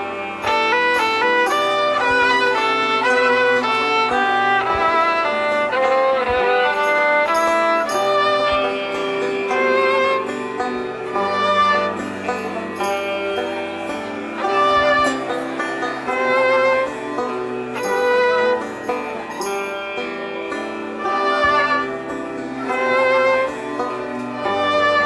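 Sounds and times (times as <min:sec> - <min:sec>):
violins playing quick melody: 0:00.0 - 0:25.0.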